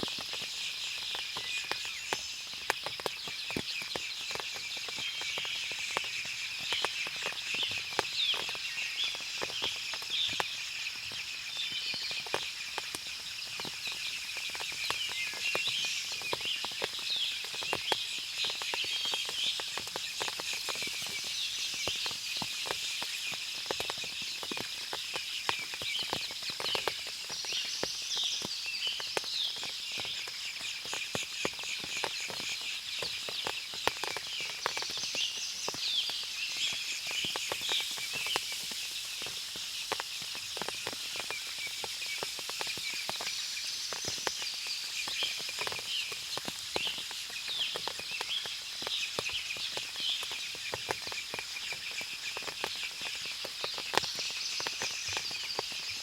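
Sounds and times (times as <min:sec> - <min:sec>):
water dripping: 0:00.0 - 0:56.0.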